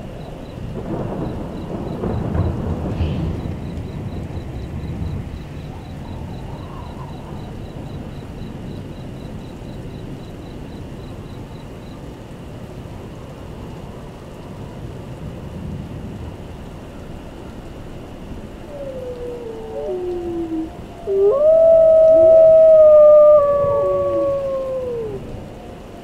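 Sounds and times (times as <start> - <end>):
low rumbling thunder: 0.0 - 26.0
steady rain: 0.0 - 26.0.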